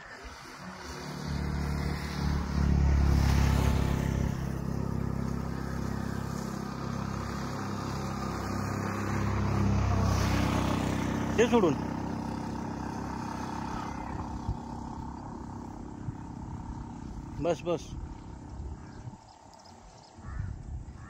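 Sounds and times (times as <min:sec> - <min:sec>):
vehicle engine running: 0:00.0 - 0:19.7.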